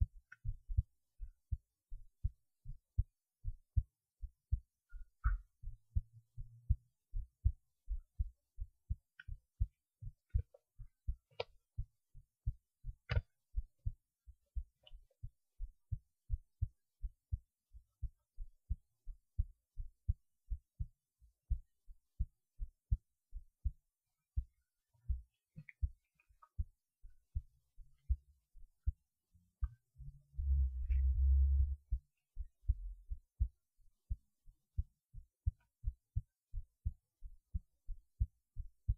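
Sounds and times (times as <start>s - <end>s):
heartbeat thumps: 0.0s - 23.8s, 24.4s - 29.0s, 29.6s - 34.2s, 34.8s - 38.9s.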